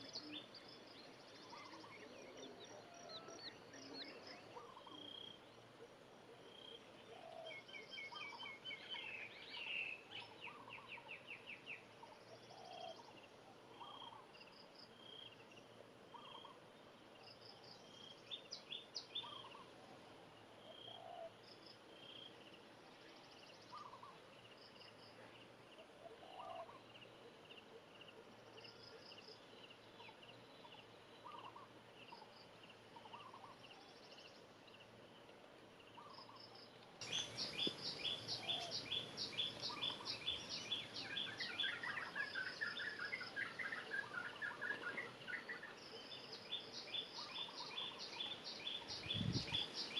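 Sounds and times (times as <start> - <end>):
faint bird chirps: 0.0 - 49.9.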